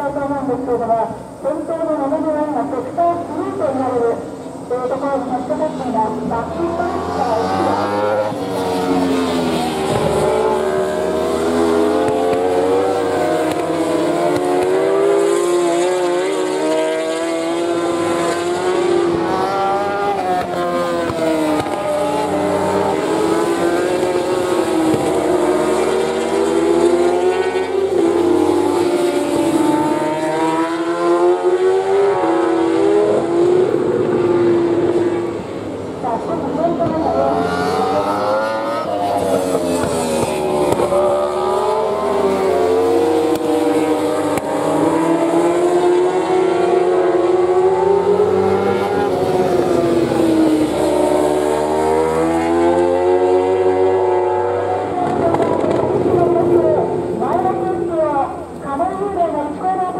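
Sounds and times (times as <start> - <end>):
racing motorcycle engines: 0.0 - 59.9.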